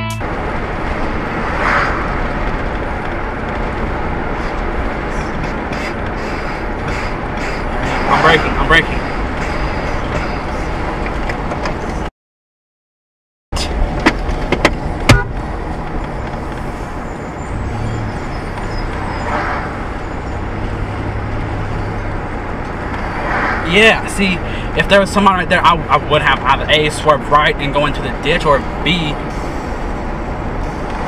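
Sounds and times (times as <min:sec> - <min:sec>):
car driving heard from inside: 0:00.2 - 0:12.1, 0:13.6 - 0:31.0.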